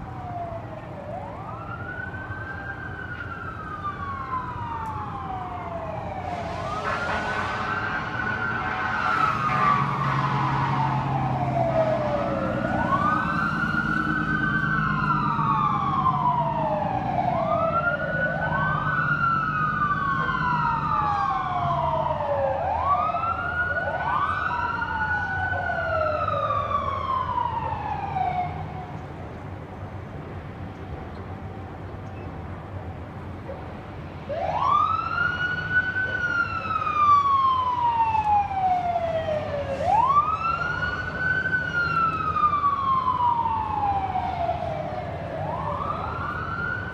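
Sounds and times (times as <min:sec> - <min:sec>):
fire engine sirens wailing: 0:00.0 - 0:46.9.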